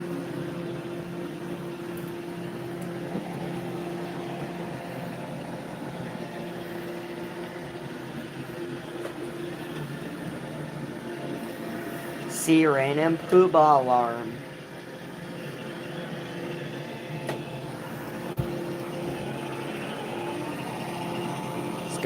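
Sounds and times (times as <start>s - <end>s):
robot vacuum motor hum: 0.0s - 13.4s, 14.4s - 22.0s.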